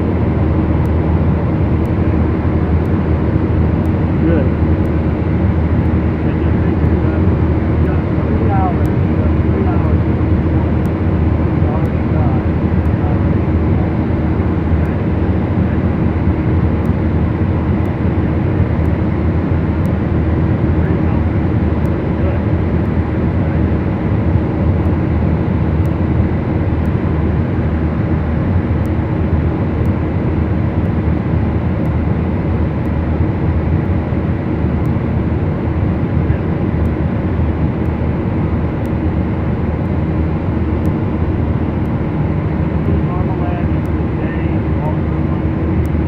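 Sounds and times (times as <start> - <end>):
twin propeller aircraft engines droning: 0.0 - 46.0.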